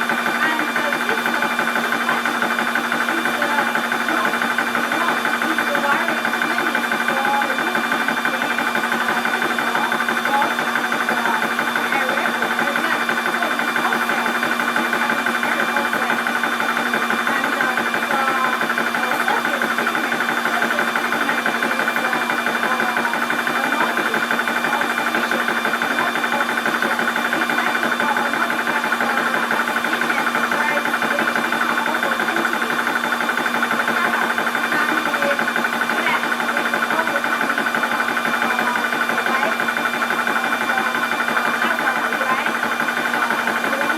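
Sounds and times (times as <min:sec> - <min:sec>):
air compressor pumping: 0:00.0 - 0:43.9
cooling fan: 0:00.0 - 0:43.9.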